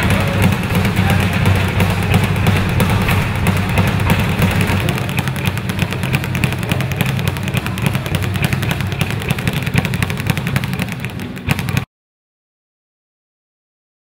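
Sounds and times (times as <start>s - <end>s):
speed bags being punched: 0.0s - 11.9s.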